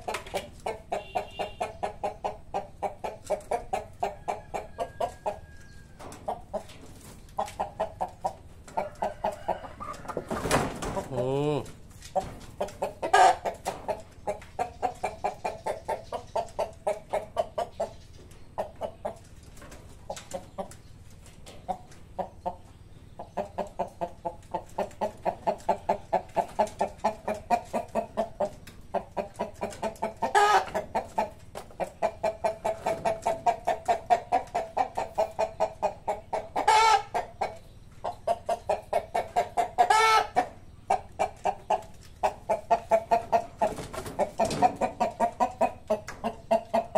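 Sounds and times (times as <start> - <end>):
chicken calls: 0.0 - 46.9
chickens clucking: 0.0 - 46.9.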